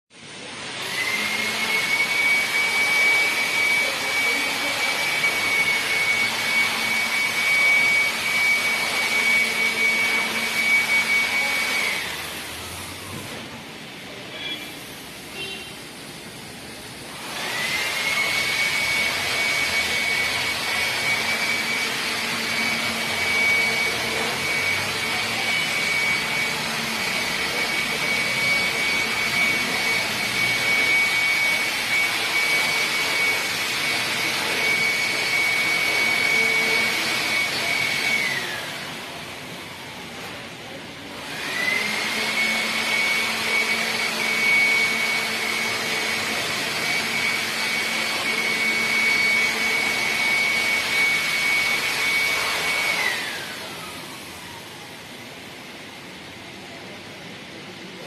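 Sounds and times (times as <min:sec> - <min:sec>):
high-speed electric motor whining: 0:00.3 - 0:55.3.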